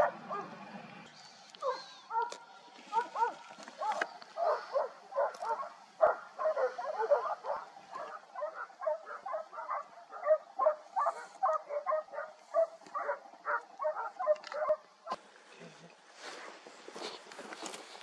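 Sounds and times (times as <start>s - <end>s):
hunting dogs barking and yelping: 0.0s - 15.2s.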